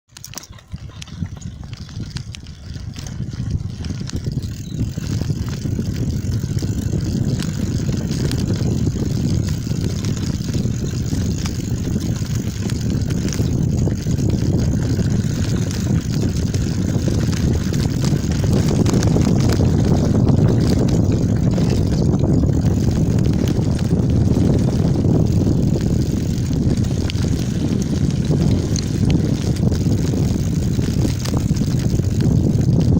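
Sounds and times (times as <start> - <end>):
bicycle tyres rolling on road: 0.1 - 32.9
small clicks and rattles: 0.1 - 32.9
wind buffeting microphone: 0.2 - 32.9.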